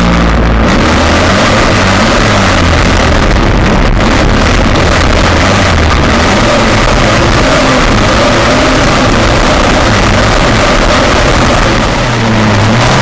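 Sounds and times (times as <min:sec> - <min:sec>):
rc car engine revving: 0:00.0 - 0:13.0.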